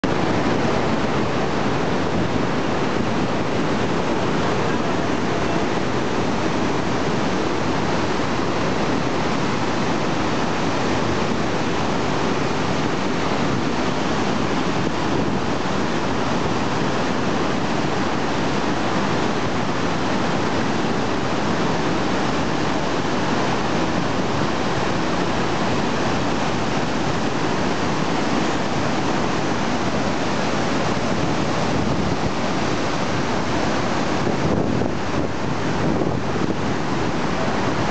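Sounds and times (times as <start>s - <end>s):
waterfall roaring over rocks: 0.0s - 37.9s.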